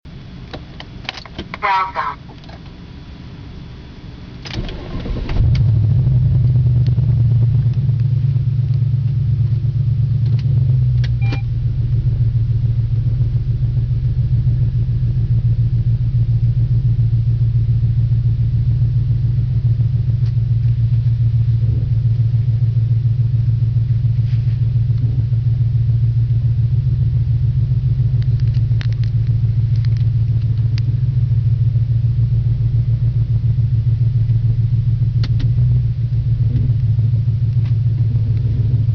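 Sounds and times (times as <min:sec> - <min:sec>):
car engine starting and idling: 0:00.1 - 0:38.9
loud deep exhaust drone: 0:00.1 - 0:38.9.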